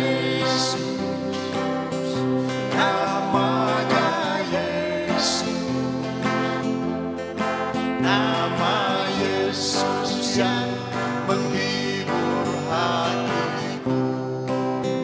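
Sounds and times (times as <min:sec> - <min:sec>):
gospel song with guitar: 0:00.0 - 0:15.0
person singing ornamented notes: 0:00.0 - 0:15.0.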